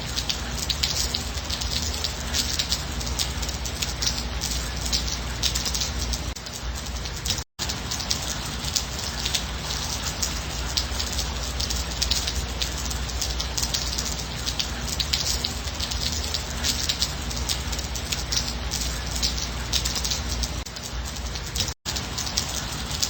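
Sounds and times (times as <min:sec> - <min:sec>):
gentle rain: 0:00.0 - 0:23.0.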